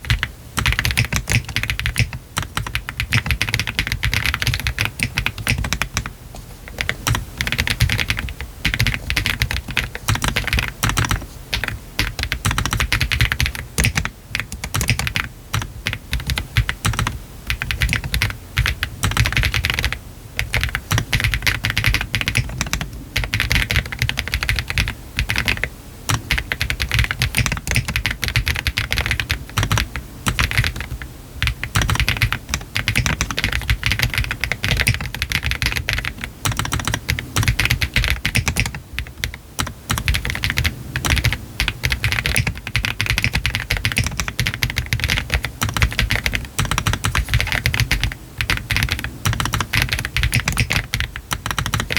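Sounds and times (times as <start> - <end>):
fast mechanical keyboard typing: 0.0 - 6.1, 6.7 - 51.9.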